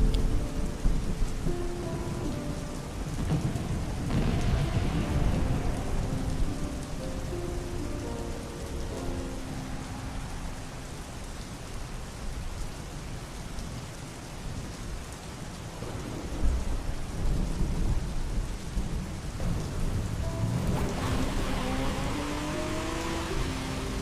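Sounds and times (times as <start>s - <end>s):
thunder rumbling: 0.0s - 12.5s, 15.7s - 24.0s
steady rain: 0.0s - 24.0s.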